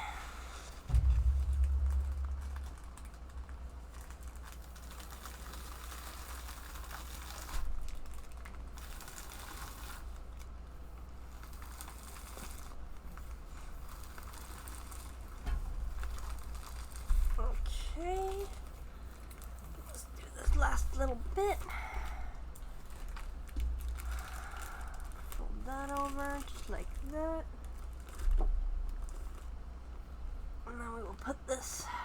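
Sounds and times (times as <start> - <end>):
low steady hum: 0.0 - 9.2, 10.0 - 32.0
plastic and paper crinkling: 0.9 - 10.5, 11.3 - 21.7, 22.5 - 29.6.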